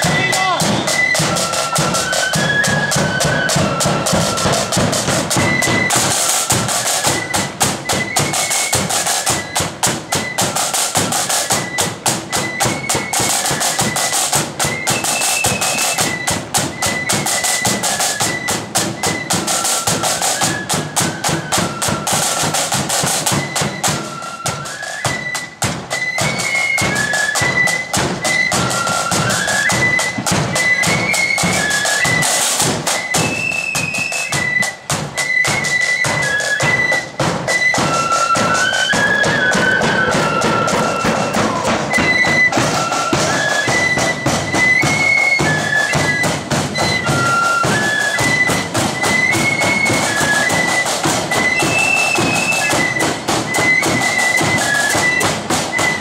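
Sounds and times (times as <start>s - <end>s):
flutes playing melody: 0.0s - 56.0s
snare drums: 0.0s - 56.0s.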